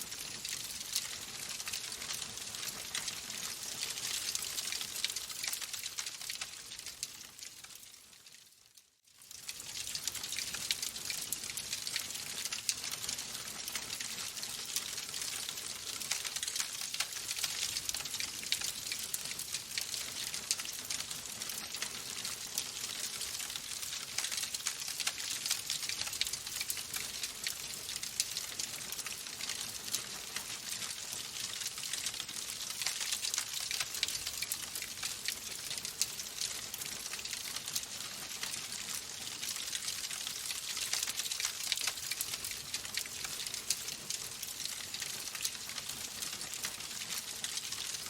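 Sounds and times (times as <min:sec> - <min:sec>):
wood fire crackling: 0:00.0 - 0:08.4, 0:09.2 - 0:48.0.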